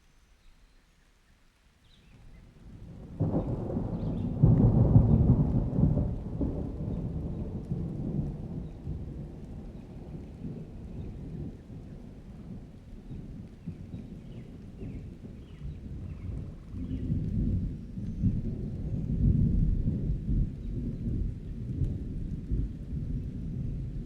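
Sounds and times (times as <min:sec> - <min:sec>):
rain falling: 0:01.1 - 0:24.0
thunder rumbling: 0:02.6 - 0:24.0.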